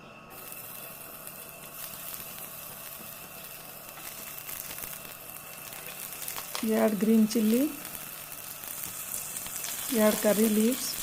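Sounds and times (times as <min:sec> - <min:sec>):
ginger sizzling in hot fat: 0:00.0 - 0:11.0.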